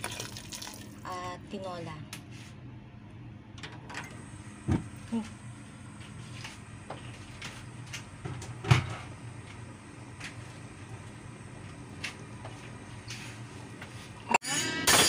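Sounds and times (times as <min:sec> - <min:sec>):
steady low hum: 0:00.6 - 0:14.4.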